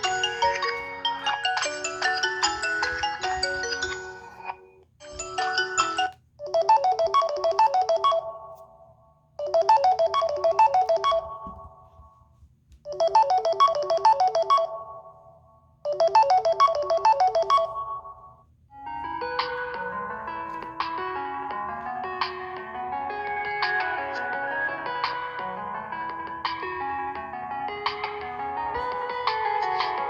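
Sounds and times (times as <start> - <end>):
phone ringtone melody: 0.0 - 11.9, 12.9 - 15.3, 15.9 - 30.0.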